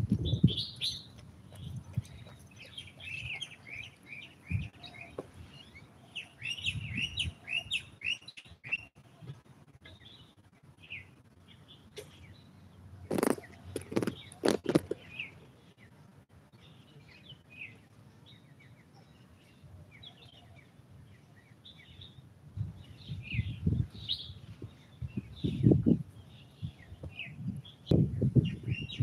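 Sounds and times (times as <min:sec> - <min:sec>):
small birds chirping: 0:00.1 - 0:29.0.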